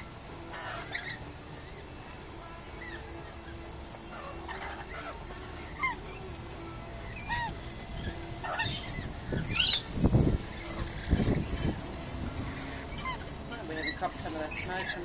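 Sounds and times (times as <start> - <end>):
lorikeets squawking: 0.0 - 15.0.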